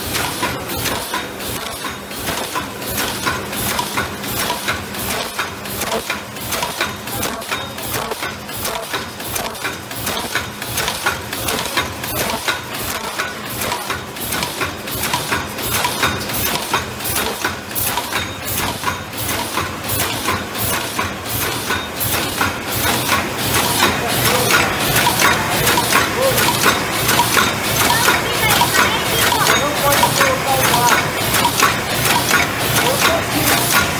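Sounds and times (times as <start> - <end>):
machine clattering clicks and knocks: 0.0 - 33.9.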